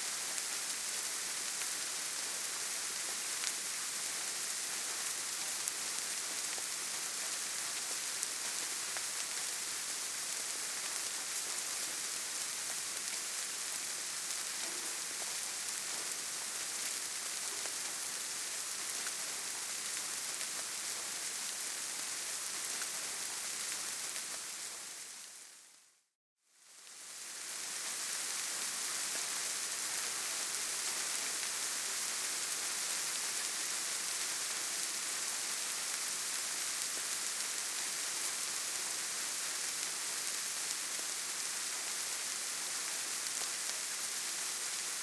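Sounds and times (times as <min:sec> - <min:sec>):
steady rainfall hiss: 0:00.0 - 0:45.0.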